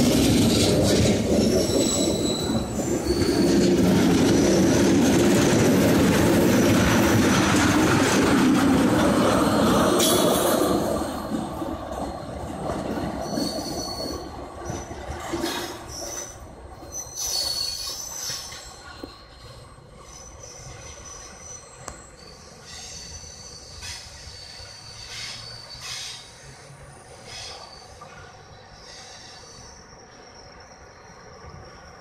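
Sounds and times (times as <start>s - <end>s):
train cars rumbling: 0.0s - 32.0s
train wheels squealing: 0.0s - 32.0s.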